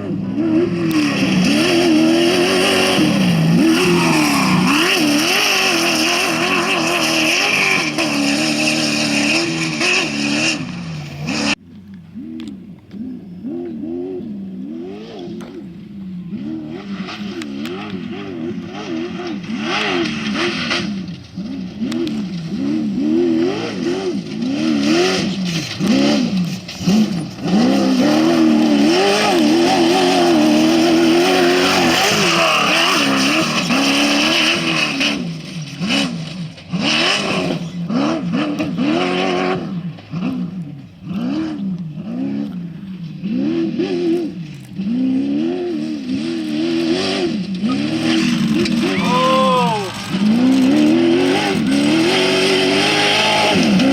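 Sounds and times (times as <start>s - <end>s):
race vehicle engine revving: 0.0s - 53.9s.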